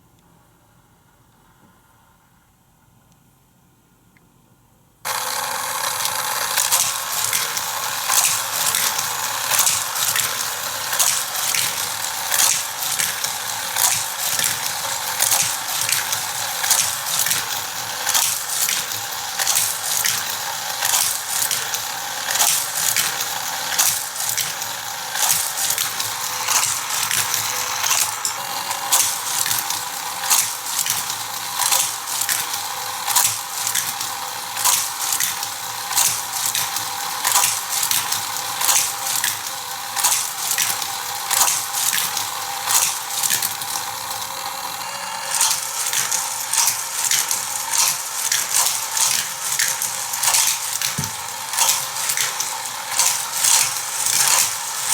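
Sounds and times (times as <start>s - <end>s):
motorized toy track booster whirring: 5.0s - 54.9s
toy cars clattering on plastic track: 5.1s - 54.9s.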